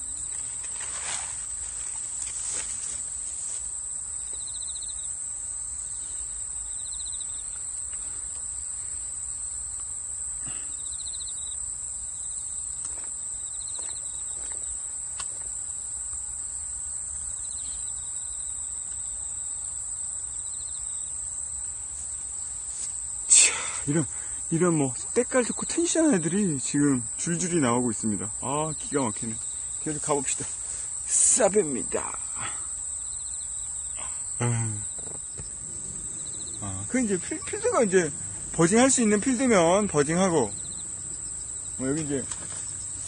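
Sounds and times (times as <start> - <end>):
high-pitched insect chorus: 0.0 - 43.0
pulsed insect call: 0.0 - 43.0.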